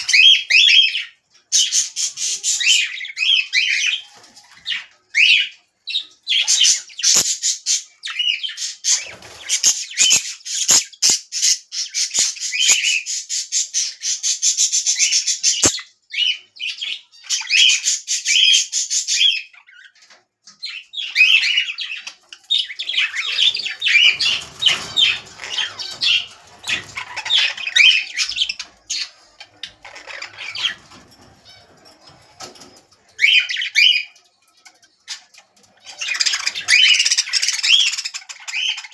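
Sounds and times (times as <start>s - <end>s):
parrots chattering and squawking: 0.0s - 38.9s.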